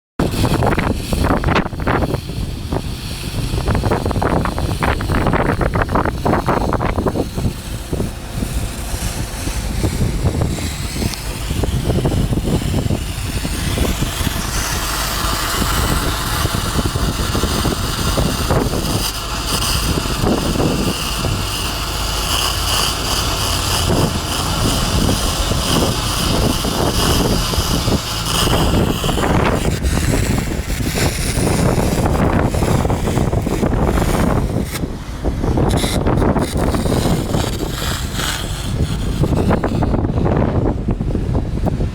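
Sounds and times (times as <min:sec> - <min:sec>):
welding arc crackling hiss: 0:00.2 - 0:40.2
engine running: 0:00.2 - 0:41.9
wind on microphone: 0:00.2 - 0:41.9.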